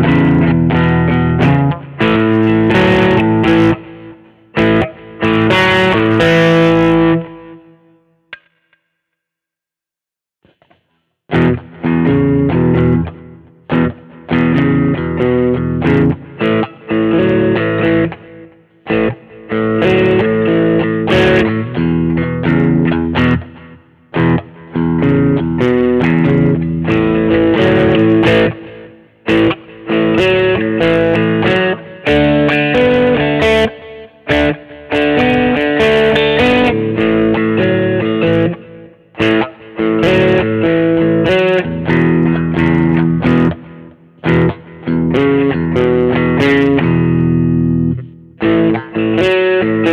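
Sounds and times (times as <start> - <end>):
electric guitar through amplifier: 0.0 - 8.6, 10.4 - 49.9.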